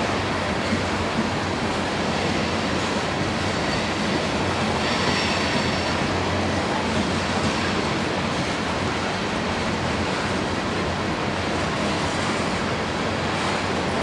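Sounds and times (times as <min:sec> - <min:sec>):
freight train wheels rushing on rail: 0:00.0 - 0:14.0.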